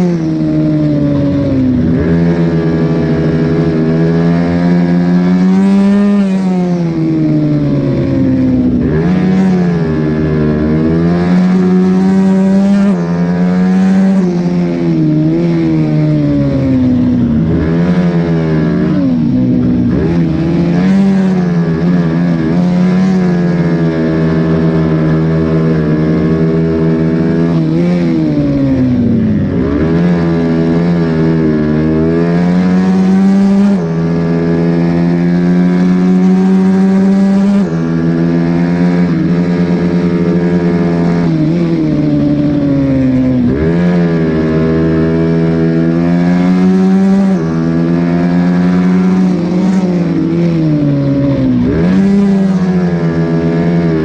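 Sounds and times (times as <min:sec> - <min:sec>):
motorcycle engine revving high: 0:00.0 - 0:54.0.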